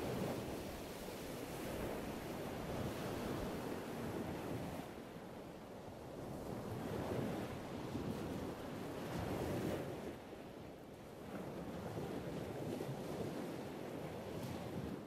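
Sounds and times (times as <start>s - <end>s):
ocean waves washing in and out: 0.0s - 15.0s.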